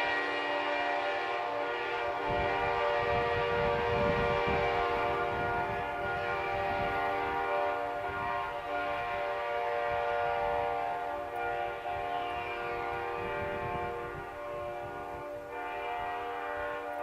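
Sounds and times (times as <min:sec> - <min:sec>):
locomotive air horn chord: 0:00.0 - 0:17.0.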